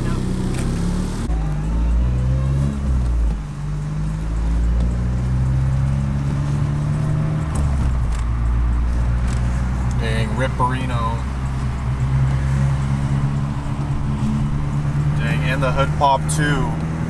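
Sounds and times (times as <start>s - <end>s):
car engine and exhaust droning: 0.0s - 17.0s.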